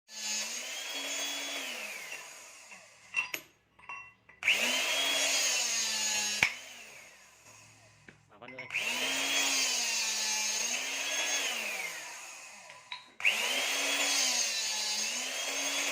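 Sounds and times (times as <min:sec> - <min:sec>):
hydraulic cutter motor whine: 0:00.1 - 0:03.1, 0:04.4 - 0:08.0, 0:08.7 - 0:15.9.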